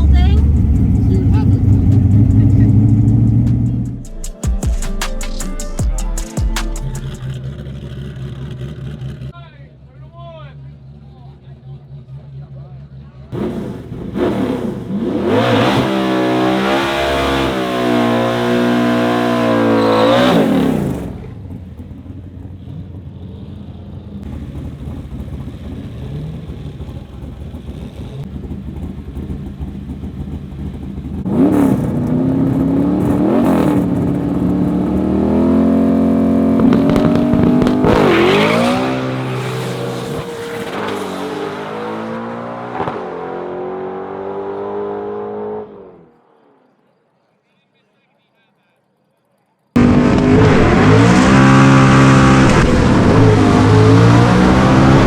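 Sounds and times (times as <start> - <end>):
racing car engines revving: 0.0 - 4.2, 6.8 - 9.9, 10.6 - 46.6, 49.8 - 55.0.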